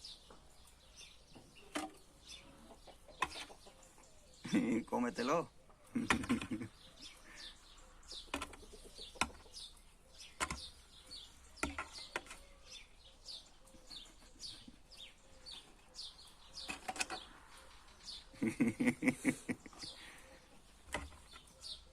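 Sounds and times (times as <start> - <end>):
small bird chirping: 0.0 - 21.9.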